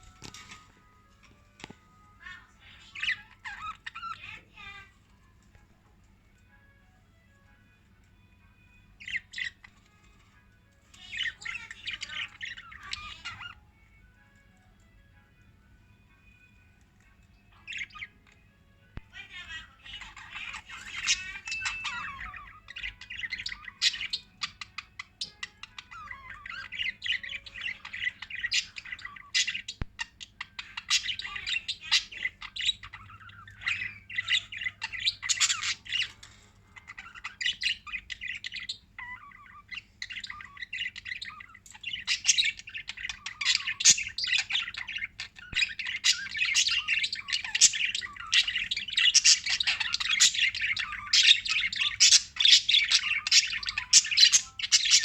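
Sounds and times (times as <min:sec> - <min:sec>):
parrots chattering: 0:00.0 - 0:55.0.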